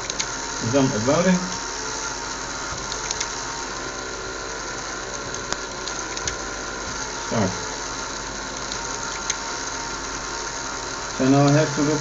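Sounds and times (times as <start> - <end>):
small electric motors whirring: 0.0 - 12.0.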